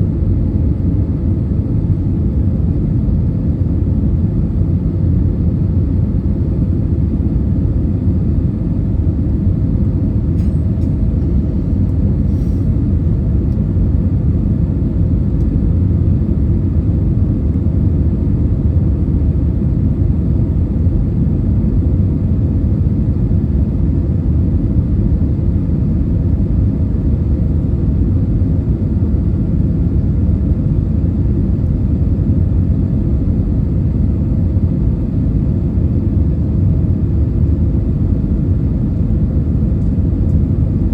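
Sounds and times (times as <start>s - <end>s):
aircraft cabin rumble: 0.0s - 40.9s.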